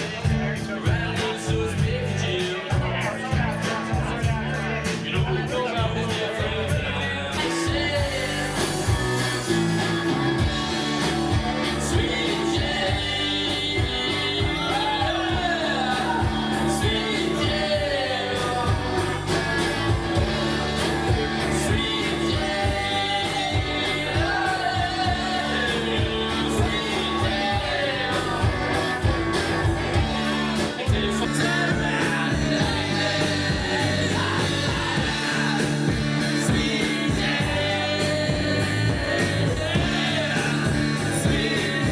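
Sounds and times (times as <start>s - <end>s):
drums: 0.0s - 41.9s
electric guitar: 0.0s - 41.9s
person singing: 0.0s - 41.9s.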